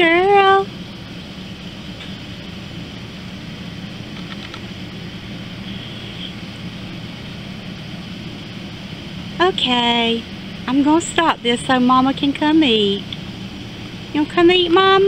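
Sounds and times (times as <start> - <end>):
constant hiss: 0.0 - 15.0
low machine hum: 0.0 - 15.0.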